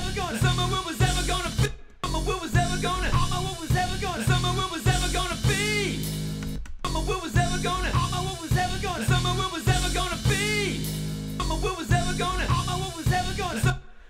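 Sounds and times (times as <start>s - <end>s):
drum beat and bass: 0.0s - 13.8s
sung vocals: 0.0s - 14.0s.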